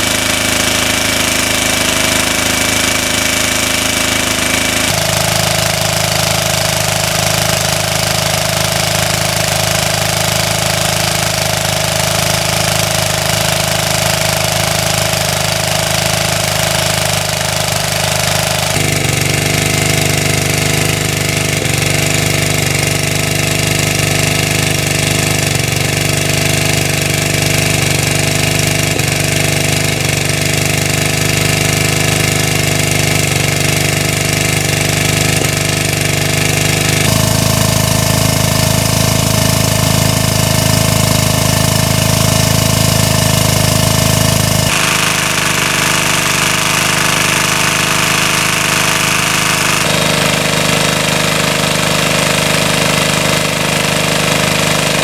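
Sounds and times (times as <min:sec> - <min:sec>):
small water pump engine running: 0:00.0 - 0:55.0
water gushing from hose: 0:00.0 - 0:55.0.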